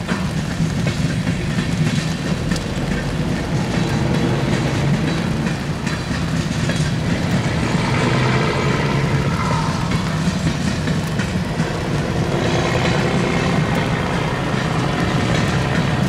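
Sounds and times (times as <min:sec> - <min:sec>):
faint rail clicks: 0:00.0 - 0:16.0
freight train wheels rumbling on rails: 0:00.0 - 0:16.0.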